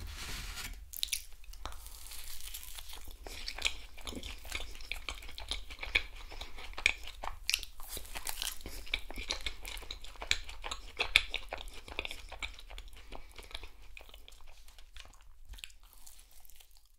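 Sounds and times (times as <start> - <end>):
close chewing with wet clicks: 2.8 - 16.9.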